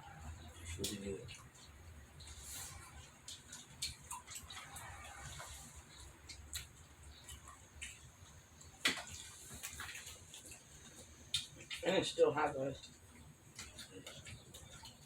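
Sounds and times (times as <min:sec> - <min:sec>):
chewing and mouth smacks: 0:00.2 - 0:11.9, 0:12.8 - 0:15.0.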